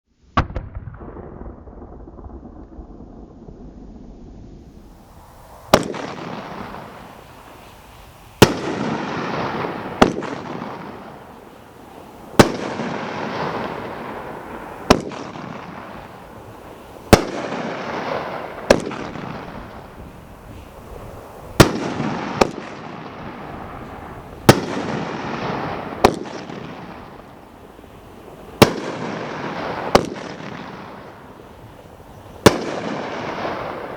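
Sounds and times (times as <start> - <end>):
firework crackling: 0.1 - 33.9
firework bangs: 0.3 - 33.9.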